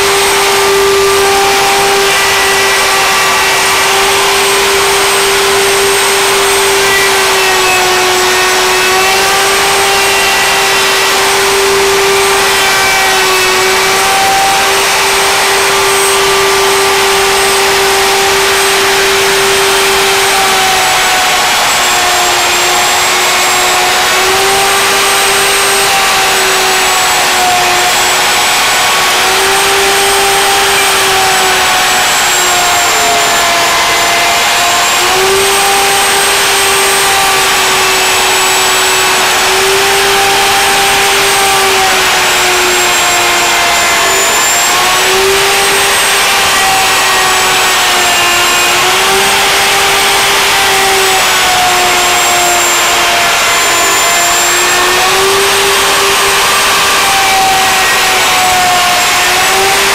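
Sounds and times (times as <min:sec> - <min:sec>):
router cutting wood: 0:00.0 - 0:59.9.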